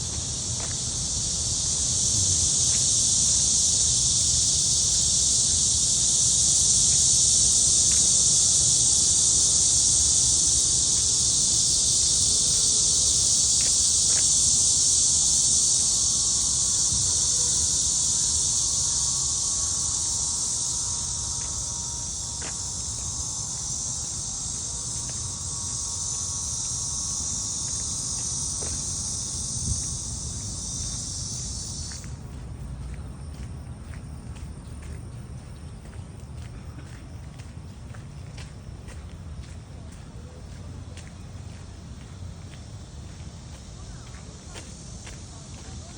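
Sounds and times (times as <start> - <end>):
cicadas buzzing: 0.0 - 45.9.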